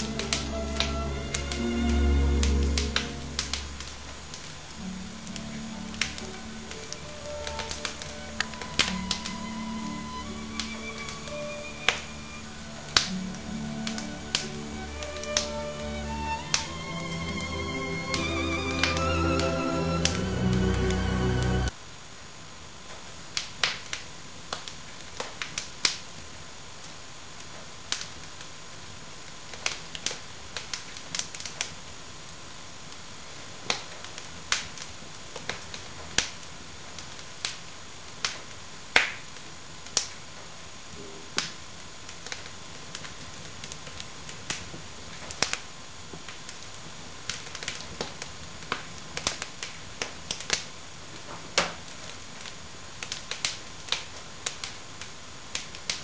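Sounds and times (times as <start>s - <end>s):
fire crackling: 0.0s - 21.8s, 23.0s - 56.0s
faint hiss: 0.0s - 56.0s.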